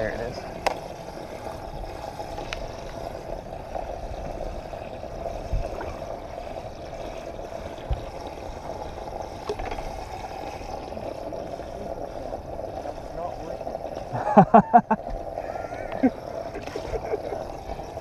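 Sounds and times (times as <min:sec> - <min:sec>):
water gurgling and trickling: 0:00.0 - 0:18.0.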